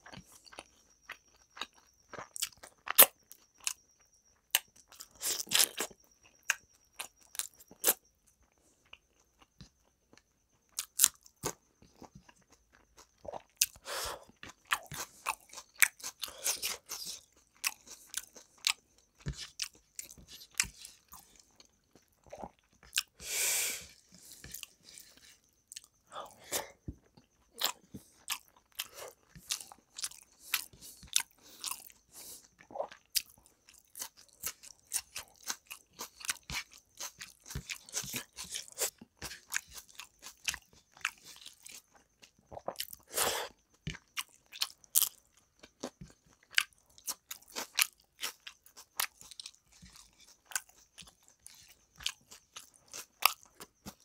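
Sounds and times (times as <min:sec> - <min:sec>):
man chewing food: 0:00.0 - 0:54.0.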